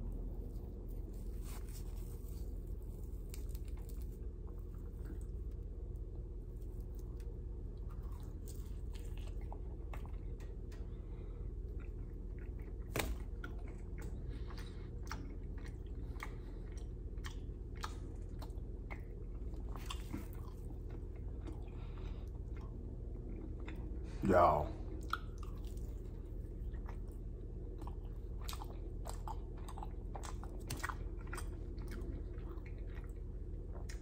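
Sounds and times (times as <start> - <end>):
crunchy chewing of pastry: 0.0 - 34.0.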